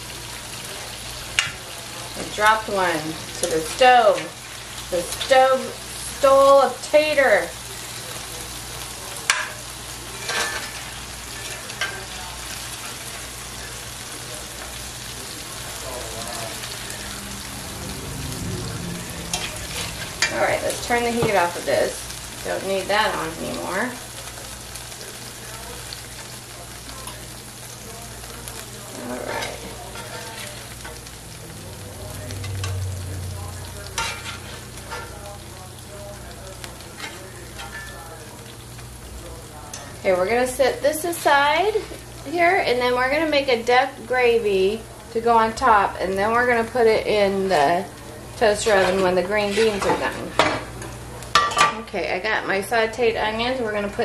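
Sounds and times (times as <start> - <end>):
potatoes sizzling in a skillet: 0.0 - 54.0.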